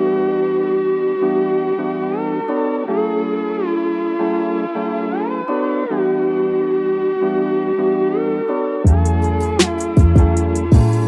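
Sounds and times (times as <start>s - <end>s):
instrumental synth music: 0.0s - 11.0s.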